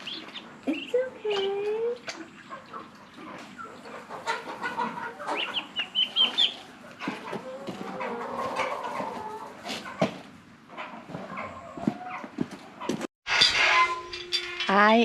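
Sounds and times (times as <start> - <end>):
chickens clucking: 0.0 - 13.1.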